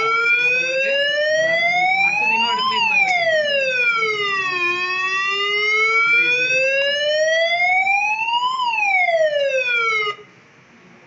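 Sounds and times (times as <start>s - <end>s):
fire alarm sounder wailing: 0.0s - 10.2s.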